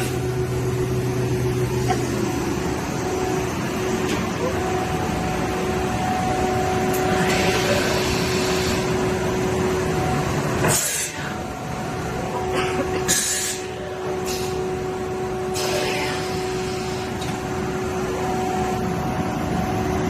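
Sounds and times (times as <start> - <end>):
machine motor whine: 0.0 - 20.0.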